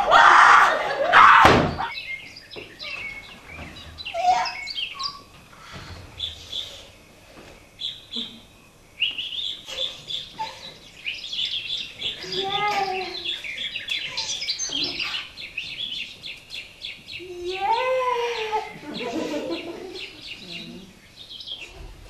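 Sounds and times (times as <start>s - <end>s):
bird chirping and twittering: 1.7s - 22.0s.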